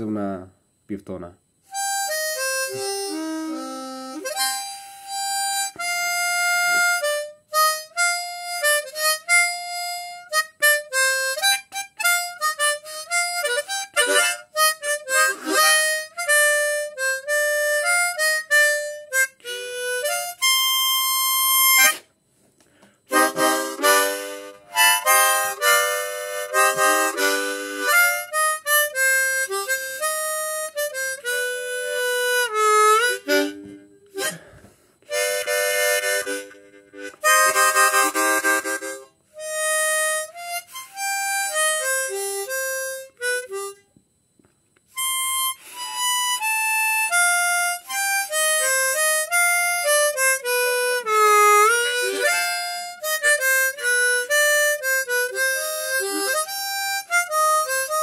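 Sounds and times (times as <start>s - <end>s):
harmonica playing a tune: 1.6s - 22.1s, 22.8s - 44.0s, 44.8s - 58.0s.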